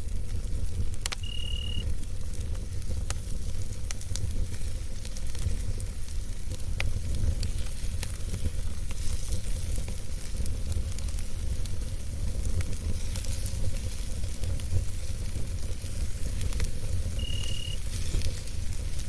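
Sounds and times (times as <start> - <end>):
campfire crackling: 0.0 - 19.0
fire pops and snaps: 0.0 - 19.0.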